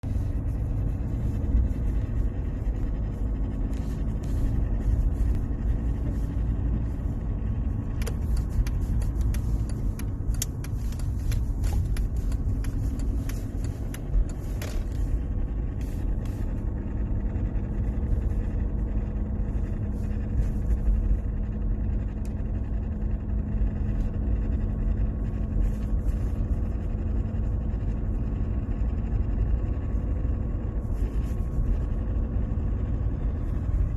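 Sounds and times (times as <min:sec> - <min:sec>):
car interior rumble: 0:00.0 - 0:33.9.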